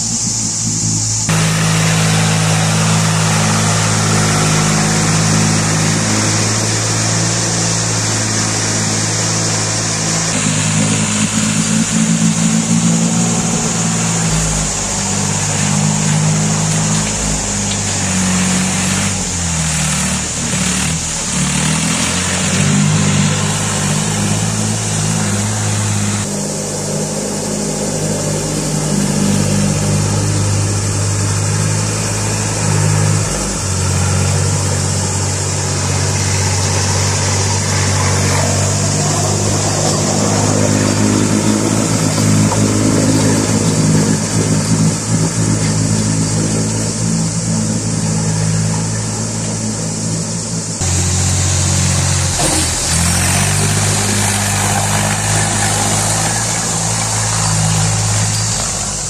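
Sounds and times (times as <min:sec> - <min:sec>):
hiss of flowing water: 0:00.0 - 0:59.0
tractor diesel engine running: 0:00.0 - 0:59.0.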